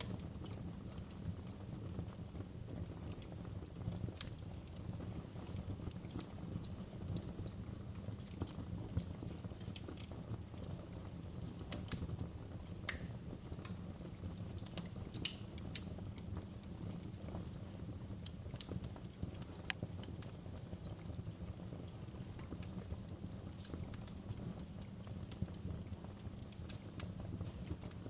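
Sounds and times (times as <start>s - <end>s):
low rumble of burning fire: 0.0s - 28.0s
wood fire crackling: 0.0s - 28.0s.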